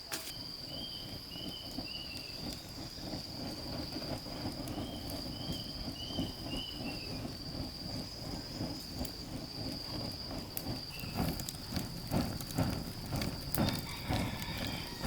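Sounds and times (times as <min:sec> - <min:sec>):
high insect drone: 0:00.0 - 0:15.0
low rumbling crackle: 0:00.1 - 0:15.0.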